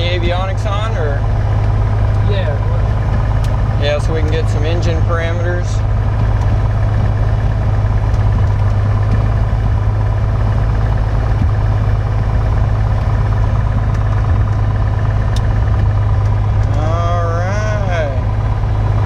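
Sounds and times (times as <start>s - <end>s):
propeller aircraft engine idling: 0.0s - 19.0s.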